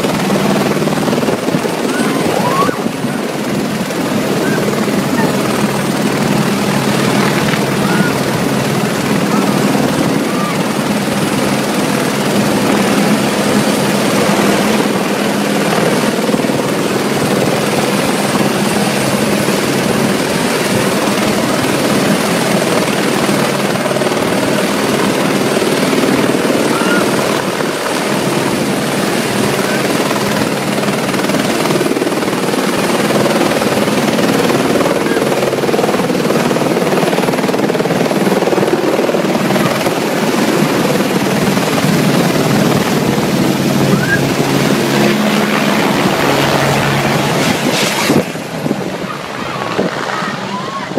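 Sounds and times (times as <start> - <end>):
helicopter hovering: 0.0 - 50.9.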